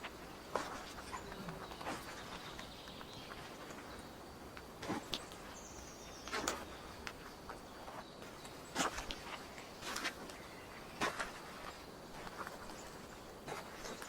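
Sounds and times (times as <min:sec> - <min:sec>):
footsteps on forest floor: 0:00.0 - 0:14.0
steady outdoor hiss: 0:00.0 - 0:14.0.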